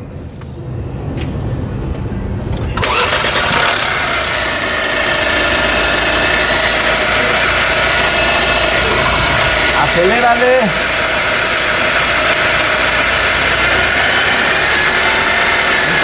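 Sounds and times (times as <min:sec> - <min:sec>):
car engine starting and running: 0:02.5 - 0:16.0.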